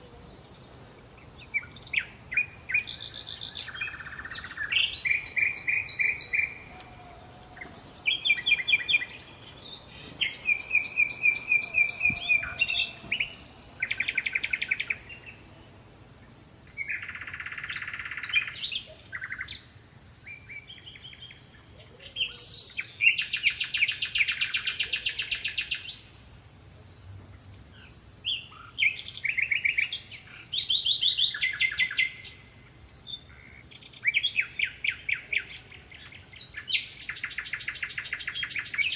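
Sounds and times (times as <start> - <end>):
songbird singing trills: 0.0 - 26.3, 27.7 - 38.9.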